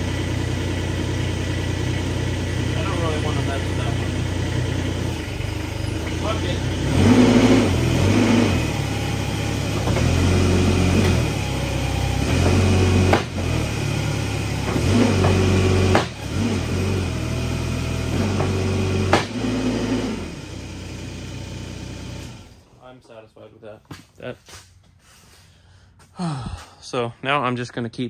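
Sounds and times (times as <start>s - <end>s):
loader diesel engine under load: 0.0s - 22.7s.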